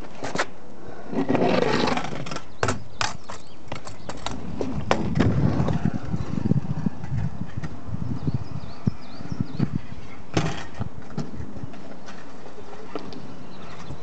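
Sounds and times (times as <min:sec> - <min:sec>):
scooter wheels rolling on concrete: 0:00.0 - 0:14.0.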